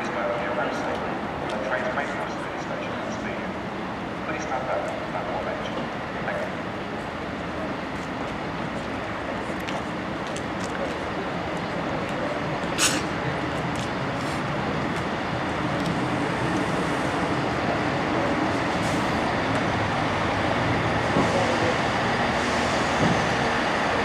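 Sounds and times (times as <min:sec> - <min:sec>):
moving train running noise: 0:00.0 - 0:24.0.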